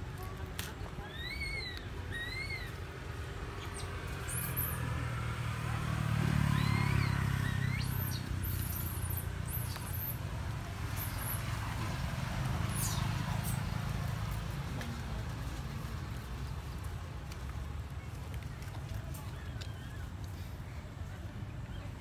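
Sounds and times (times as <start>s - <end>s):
vehicle engine rumble passing: 0.0s - 22.0s.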